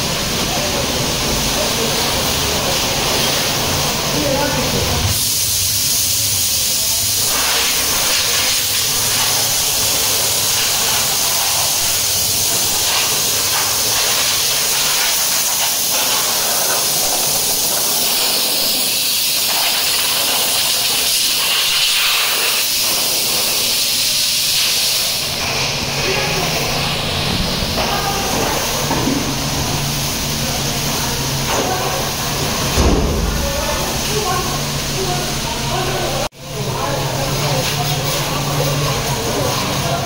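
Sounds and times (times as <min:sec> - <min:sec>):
high-pressure water spray hissing: 0:00.0 - 0:40.0.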